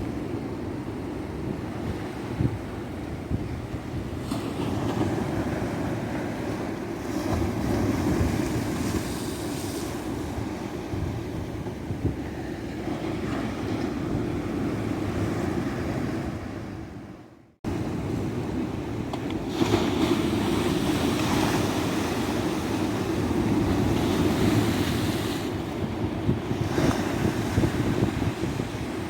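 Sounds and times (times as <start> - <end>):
ocean waves breaking on beach: 0.0 - 29.0
wind on microphone: 0.0 - 29.0.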